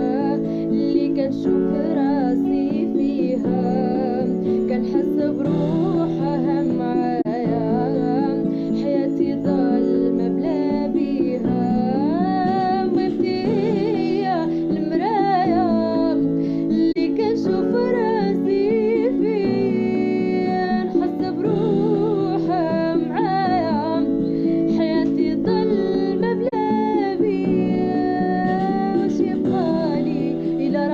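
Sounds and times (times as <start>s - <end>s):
plucked acoustic guitar: 0.0s - 30.9s.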